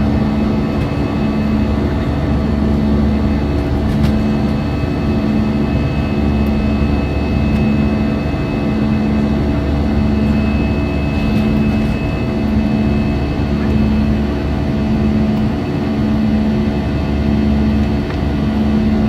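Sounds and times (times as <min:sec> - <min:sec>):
jet engines droning: 0:00.0 - 0:19.0
low hum: 0:00.0 - 0:19.0.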